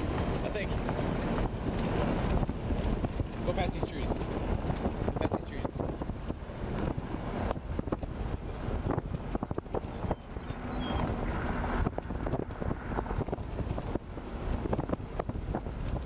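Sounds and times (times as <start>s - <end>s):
gusty wind buffeting microphone: 0.0s - 16.0s.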